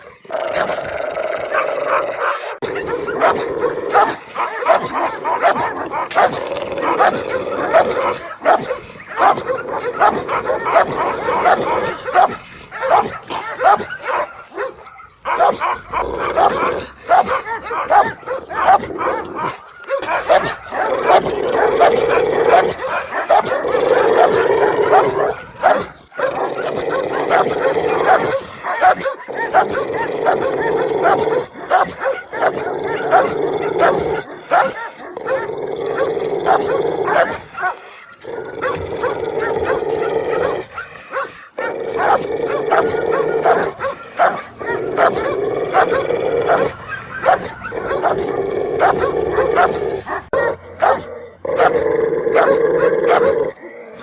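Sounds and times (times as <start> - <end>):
dog barking angrily: 0.0 - 54.0.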